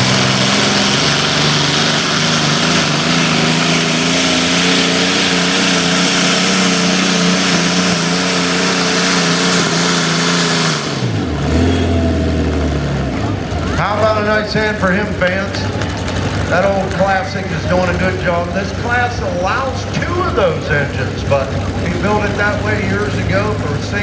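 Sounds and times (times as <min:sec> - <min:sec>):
pulling tractor engine roaring: 0:00.0 - 0:24.0.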